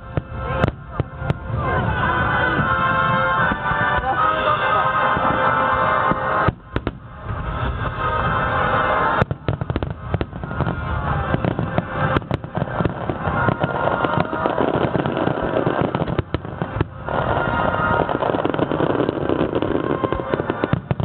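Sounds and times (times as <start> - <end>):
aerial fireworks bursting: 0.0 - 21.0
fireworks crackling: 0.0 - 21.0.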